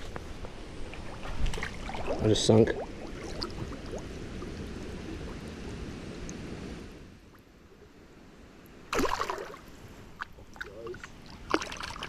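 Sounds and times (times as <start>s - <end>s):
rushing water: 0.0s - 6.9s, 8.8s - 12.0s.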